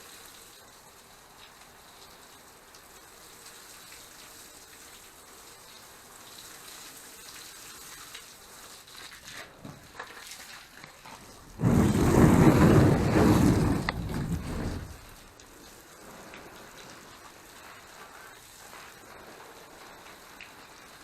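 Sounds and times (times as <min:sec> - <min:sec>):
water splashing onto plants: 0:01.5 - 0:21.0.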